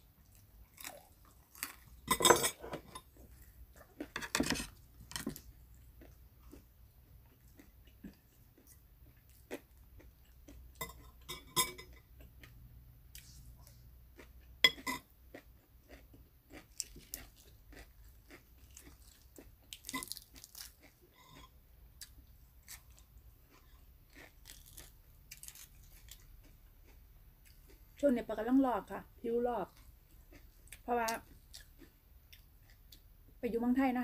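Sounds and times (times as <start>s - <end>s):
person chewing crunchy food: 0.2s - 28.0s, 29.7s - 33.2s.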